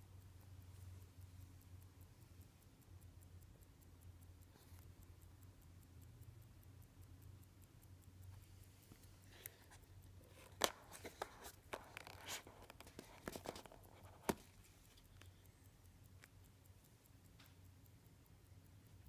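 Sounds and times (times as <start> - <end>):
fast watch ticking: 0.0 - 19.0.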